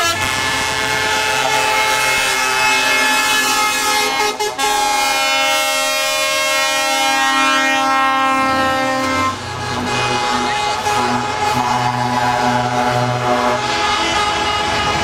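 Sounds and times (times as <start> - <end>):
truck air horn chord: 0.0 - 15.0
truck diesel engines running: 0.0 - 15.0.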